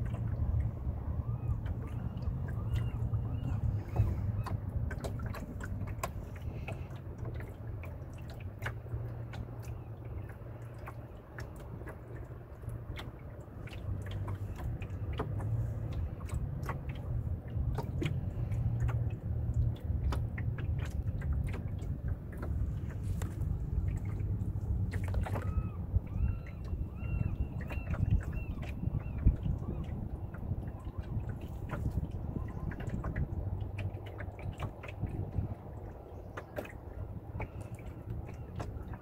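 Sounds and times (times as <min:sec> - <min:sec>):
low steady rumble: 0:00.0 - 0:39.0
water lapping against hull: 0:00.0 - 0:39.0.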